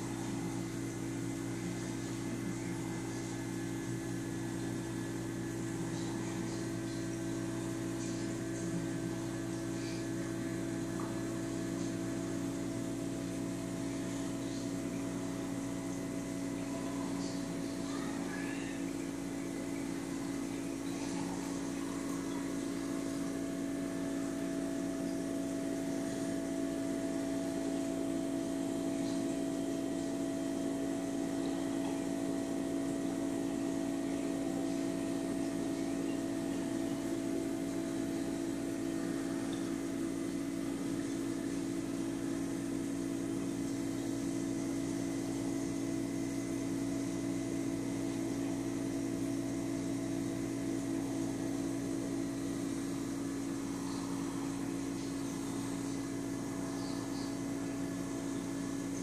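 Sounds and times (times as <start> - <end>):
aquarium pumps humming: 0.0 - 59.0.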